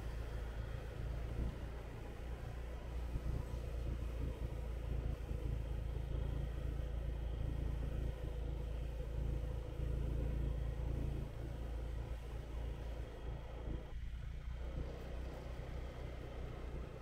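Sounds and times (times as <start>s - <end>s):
motorbike engine rumble: 0.0s - 17.0s.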